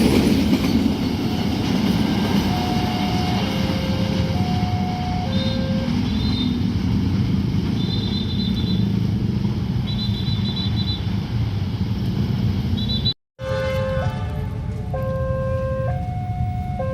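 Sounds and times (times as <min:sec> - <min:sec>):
road vehicles rumble: 0:00.0 - 0:16.9.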